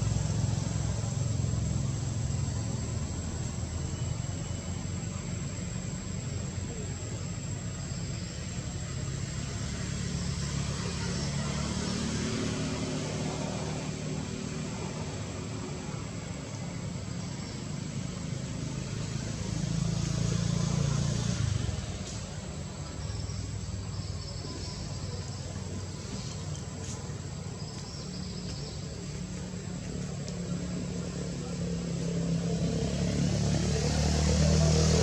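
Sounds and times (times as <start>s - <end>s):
passing vehicle engines rumbling: 0.0s - 35.0s.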